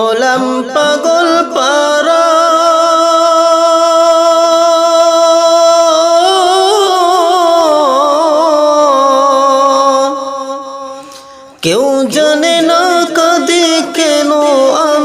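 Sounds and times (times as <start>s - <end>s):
person singing ornamented notes: 0.0s - 15.0s.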